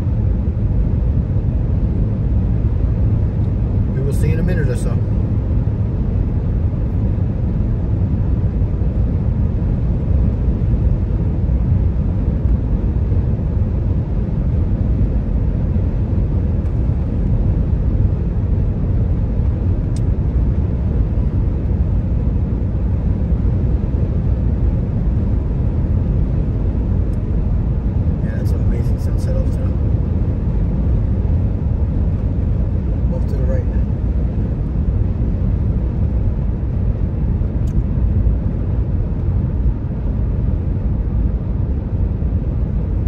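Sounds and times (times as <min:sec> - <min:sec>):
road and wind noise in car: 0:00.0 - 0:43.0.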